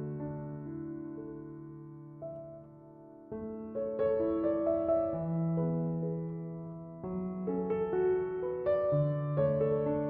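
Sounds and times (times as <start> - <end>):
slow soft piano music: 0.0 - 10.0.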